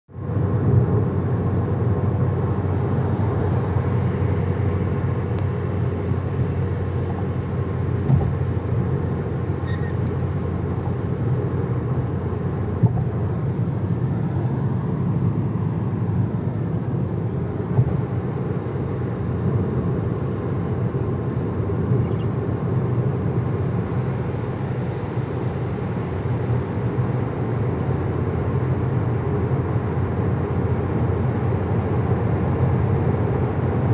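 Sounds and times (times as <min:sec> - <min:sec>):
car road and engine rumble: 0:00.1 - 0:33.9.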